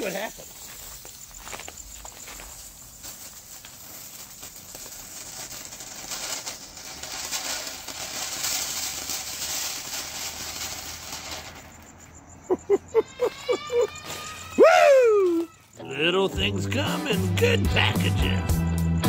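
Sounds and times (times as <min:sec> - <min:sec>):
firework fountain hissing crackle: 0:00.0 - 0:18.4.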